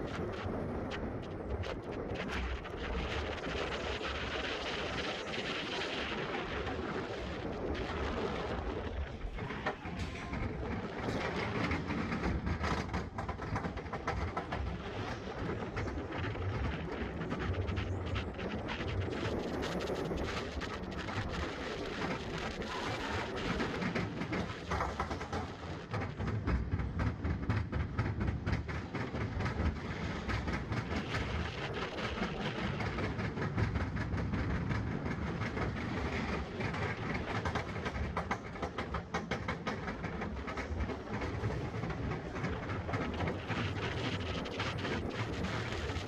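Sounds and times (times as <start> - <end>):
roller coaster wheels rattling: 0.0 - 46.0.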